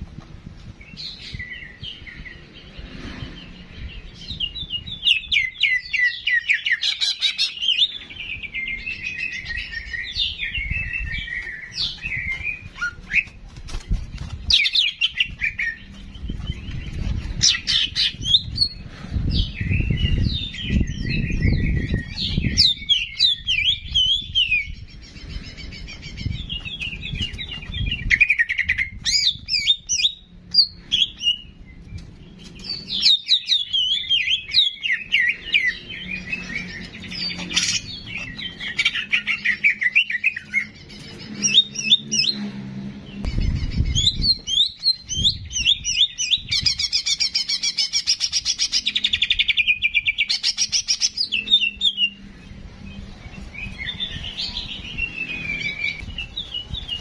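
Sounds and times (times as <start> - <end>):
bird chirps and warbling trills: 0.0 - 57.0.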